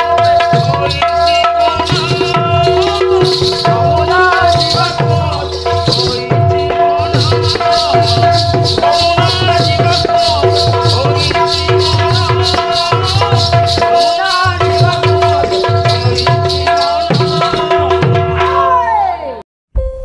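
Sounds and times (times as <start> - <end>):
fast metallic jingle: 0.0 - 18.4
barrel drum beating: 0.0 - 18.6.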